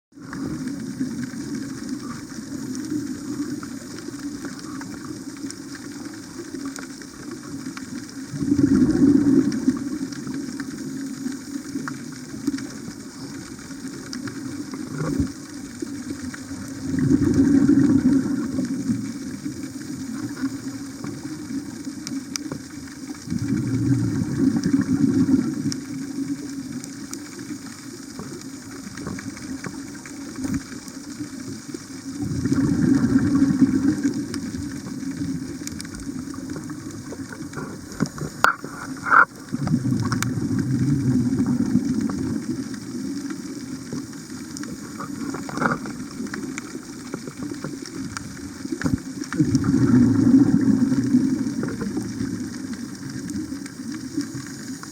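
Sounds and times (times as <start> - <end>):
gurgling exhaled bubbles: 0.1 - 54.9.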